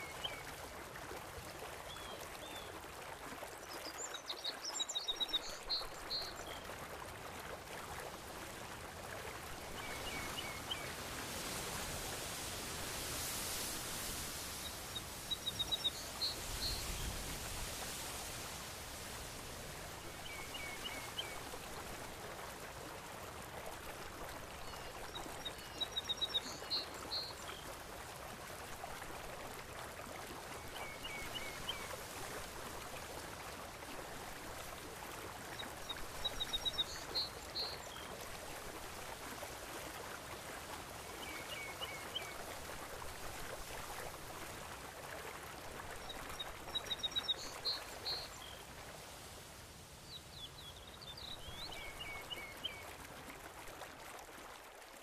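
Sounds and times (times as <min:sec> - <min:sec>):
ocean water: 0:00.0 - 0:55.0.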